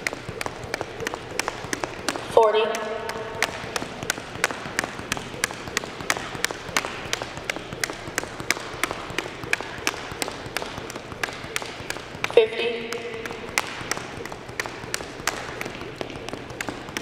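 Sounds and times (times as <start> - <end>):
jump rope slapping hardwood floor: 0.0 - 17.0.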